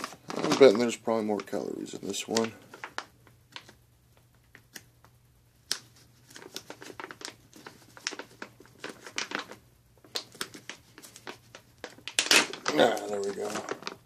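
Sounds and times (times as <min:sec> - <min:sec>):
plastic pouch tearing and crinkling: 0:00.0 - 0:03.8, 0:05.6 - 0:14.0.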